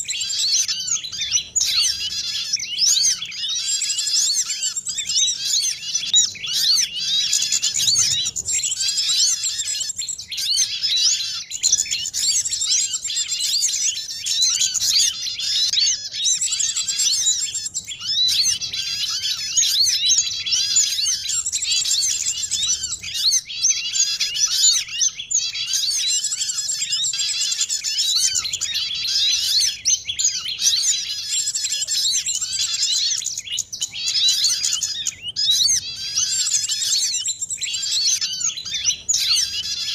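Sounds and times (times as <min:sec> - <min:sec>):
chorus of small songbirds: 0:00.0 - 0:39.9.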